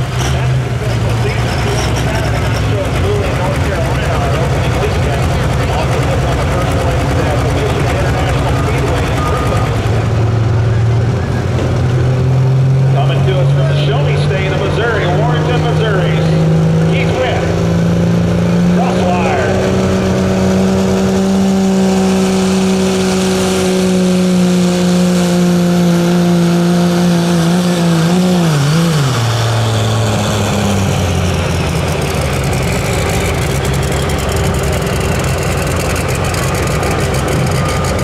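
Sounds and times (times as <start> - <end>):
diesel truck engine under load: 0.0 - 38.0.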